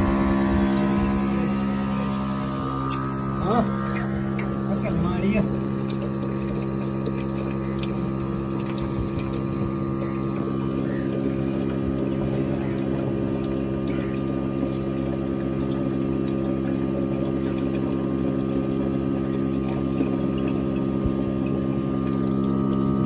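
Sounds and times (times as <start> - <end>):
vacuum pump humming: 0.0 - 23.0.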